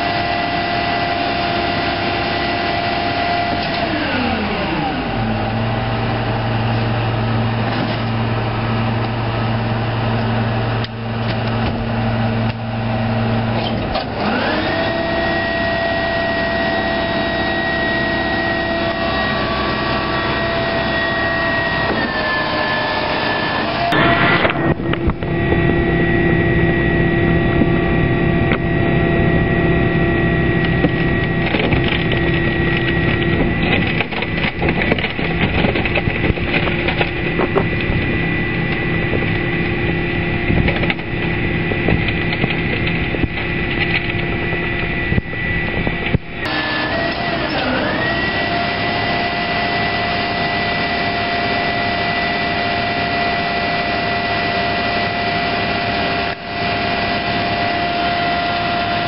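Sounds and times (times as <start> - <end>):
garbage truck engine at raised revs: 0.0 - 59.0
hydraulic whine: 0.0 - 59.0.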